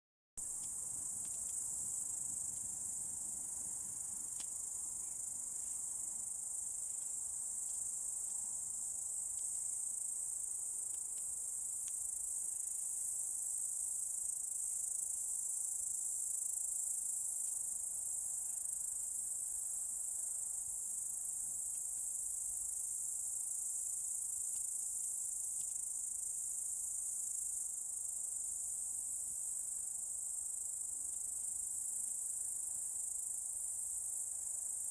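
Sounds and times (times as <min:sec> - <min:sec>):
crickets chirring: 0:00.5 - 0:34.9.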